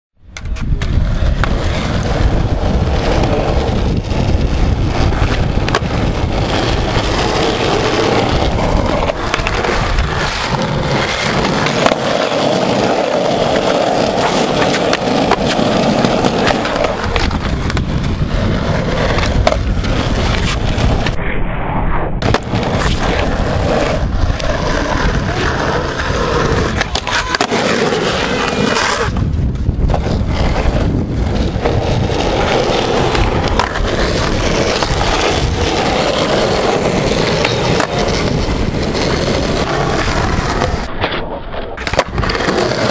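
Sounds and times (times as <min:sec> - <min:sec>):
skateboard wheels rolling on concrete: 0:00.2 - 0:21.4, 0:22.2 - 0:42.9
skateboard clacks and knocks: 0:04.6 - 0:21.1, 0:22.2 - 0:30.5, 0:31.5 - 0:42.9.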